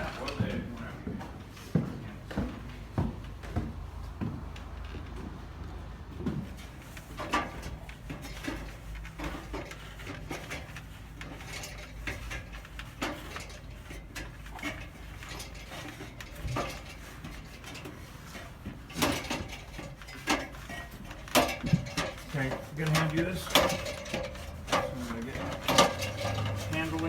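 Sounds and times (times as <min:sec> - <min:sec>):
equipment clicking and clattering: 0:02.3 - 0:27.0.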